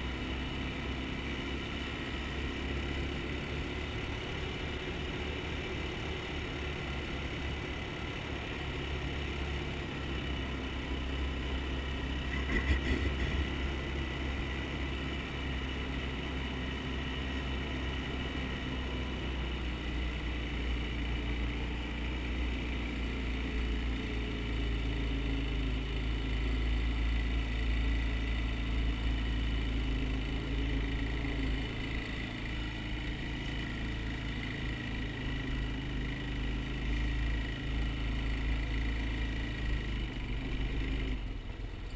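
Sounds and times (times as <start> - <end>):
quad engine running: 0.0 - 41.9.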